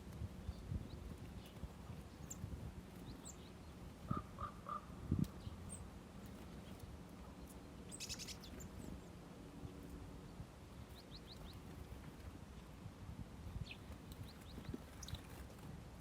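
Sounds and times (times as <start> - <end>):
small birds chirping: 0.0 - 12.8, 13.5 - 16.0.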